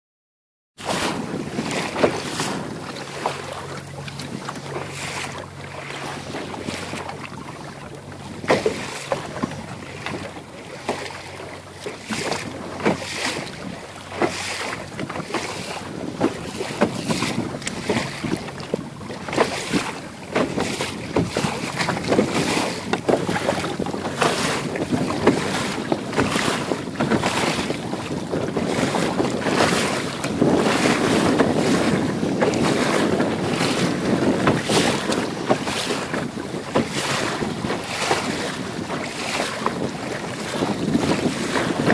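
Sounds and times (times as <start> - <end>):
hull slapping waves: 0.8 - 41.9
water rushing along hull: 0.8 - 41.9
wind buffeting microphone: 0.8 - 41.9.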